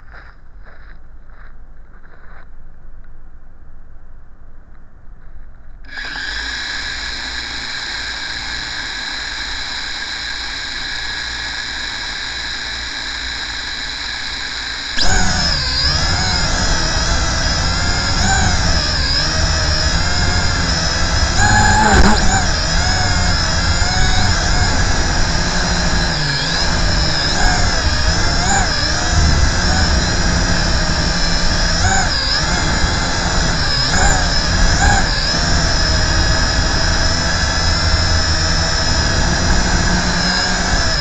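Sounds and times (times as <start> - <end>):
small electric motor whining: 5.8 - 41.0.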